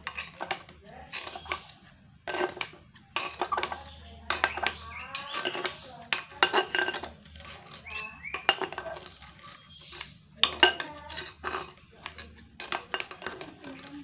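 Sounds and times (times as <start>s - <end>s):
scissors clinking on ceramic: 0.0s - 14.0s.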